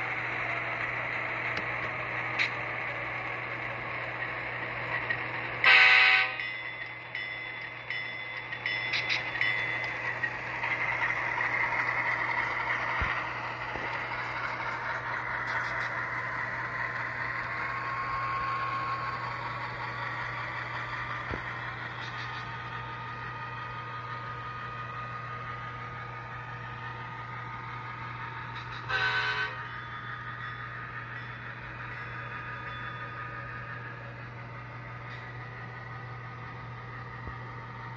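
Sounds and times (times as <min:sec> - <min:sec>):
model diesel engine hum: 0:00.0 - 0:37.9.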